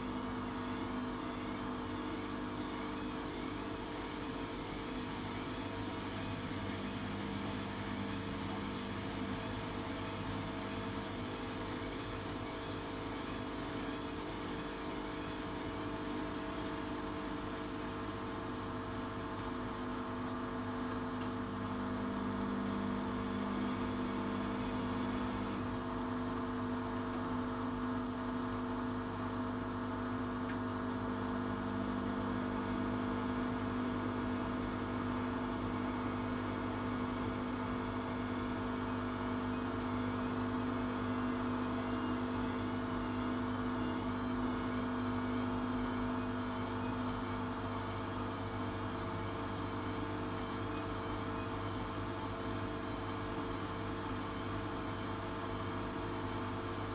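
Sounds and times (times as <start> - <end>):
washing machine motor hum and whine: 0.0 - 56.9.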